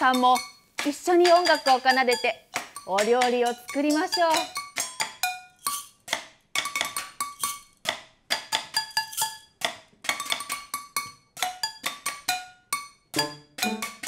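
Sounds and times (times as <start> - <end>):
pots and lids struck with sticks: 0.0 - 14.0.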